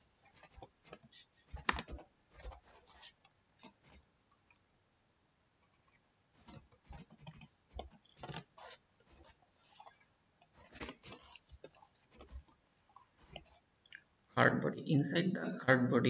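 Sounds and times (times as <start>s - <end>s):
faint keyboard typing: 0.0s - 4.6s, 5.6s - 14.0s.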